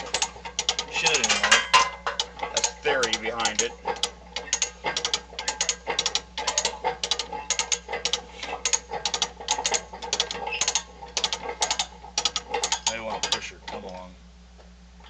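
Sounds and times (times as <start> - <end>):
hand winch pawl clicking: 0.0 - 1.3, 2.0 - 14.0.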